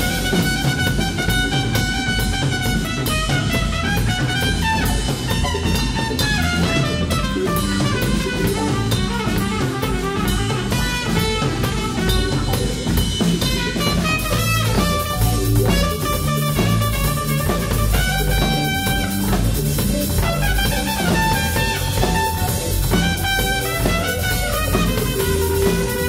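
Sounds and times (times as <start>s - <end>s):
drum kit: 0.0s - 26.0s
electric bass: 0.0s - 26.0s
electric guitar: 0.0s - 26.0s
horn section playing melody: 0.0s - 26.0s.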